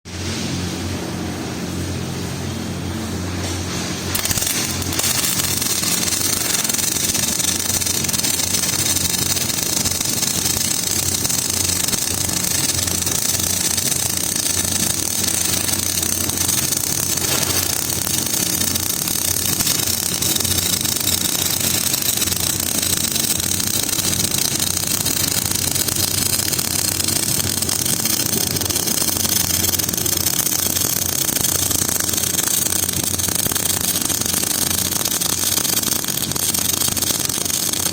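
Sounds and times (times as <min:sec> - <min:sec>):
welding arc crackling: 0:04.0 - 0:37.9.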